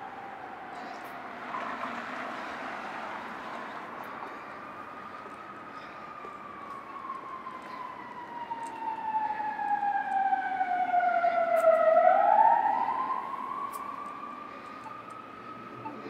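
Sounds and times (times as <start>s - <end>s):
emergency siren wailing: 0.0s - 16.0s
street traffic: 0.0s - 16.0s.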